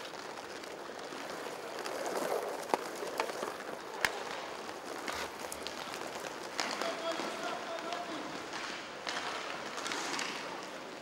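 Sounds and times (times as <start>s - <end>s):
hockey sticks clacking on puck: 0.0s - 11.0s
skate wheels rolling on rink floor: 0.0s - 11.0s.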